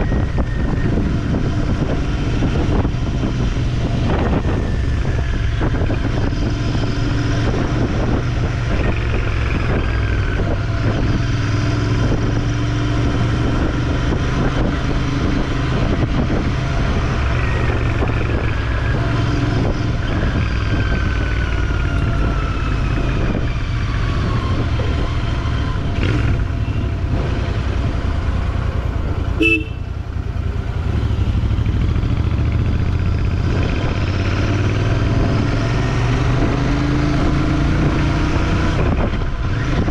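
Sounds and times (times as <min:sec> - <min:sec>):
wind on microphone: 0:00.0 - 0:29.2, 0:30.4 - 0:39.9
motorcycle engine and road rumble: 0:00.0 - 0:39.9.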